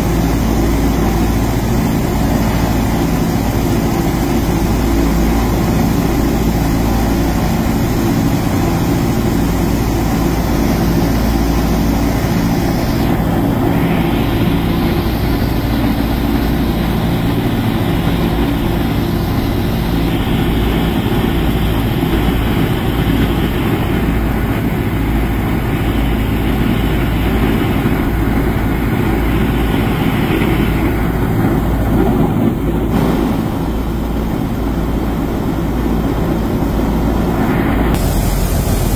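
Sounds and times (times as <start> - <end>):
aircraft engines and propellers droning: 0.0 - 38.9.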